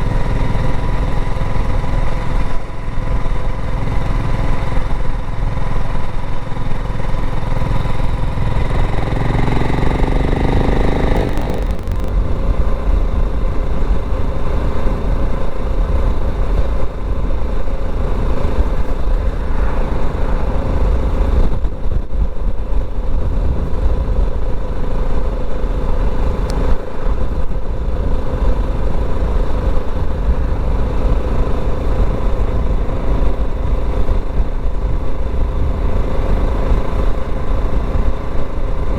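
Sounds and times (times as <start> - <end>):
motorcycle engine running: 0.0 - 38.9
road rumble: 0.0 - 38.9
wind on microphone: 0.0 - 38.9.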